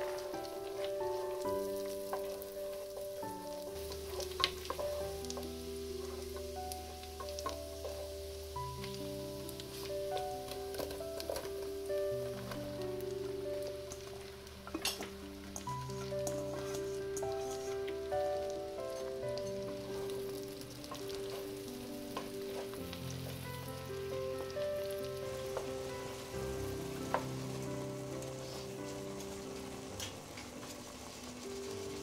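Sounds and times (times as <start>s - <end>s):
mushrooms sizzling in a pot: 0.0s - 32.0s
soft background music: 0.0s - 32.0s
wooden spoon stirring: 0.0s - 32.0s.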